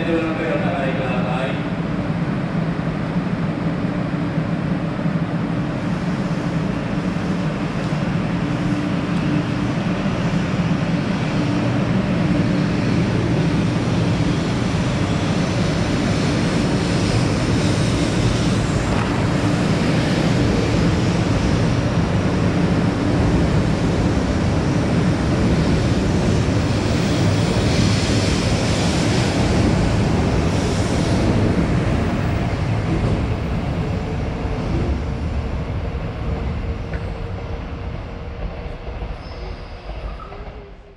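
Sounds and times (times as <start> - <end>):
train wheels and motors rumbling: 0.0 - 40.9
rushing air: 1.6 - 39.1.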